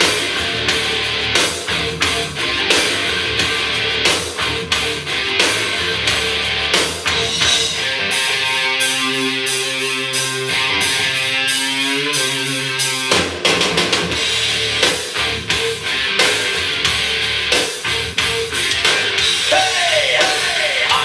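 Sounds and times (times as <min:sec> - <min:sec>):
rock song through a speaker: 0:00.0 - 0:21.0.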